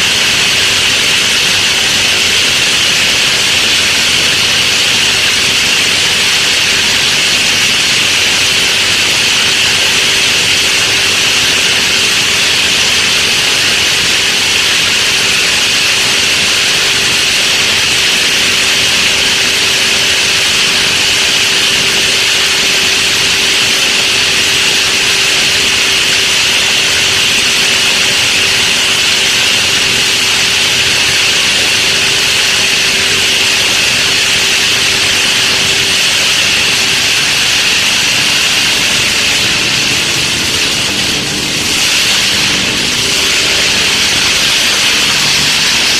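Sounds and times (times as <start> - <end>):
feed grinder machine rushing: 0.0 - 45.9
steady hum: 0.0 - 45.9.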